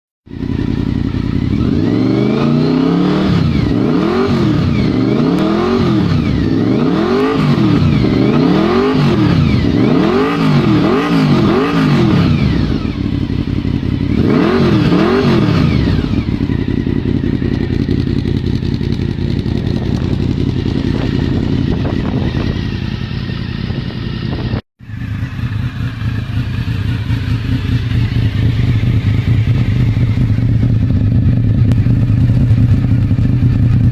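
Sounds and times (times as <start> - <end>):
motorcycle engine revving and idling: 0.2 - 33.9.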